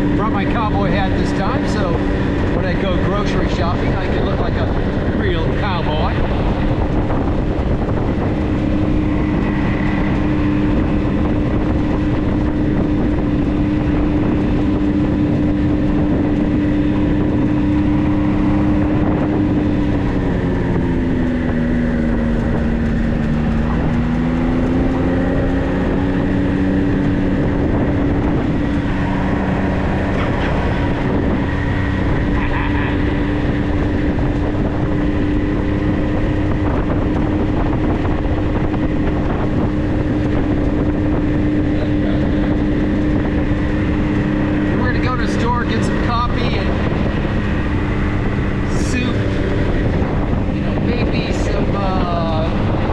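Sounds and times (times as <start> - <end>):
road noise: 0.0 - 52.9
vehicle engine running: 0.0 - 52.9.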